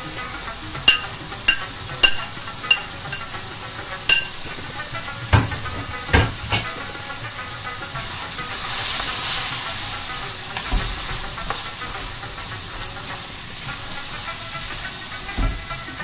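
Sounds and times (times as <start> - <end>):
meat sizzling in a wok: 0.0 - 16.0
spoon scraping and knocking pan: 0.6 - 16.0.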